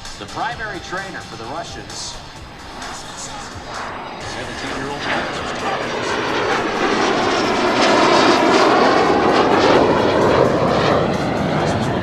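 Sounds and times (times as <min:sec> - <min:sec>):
jet roaring past: 0:00.0 - 0:12.0.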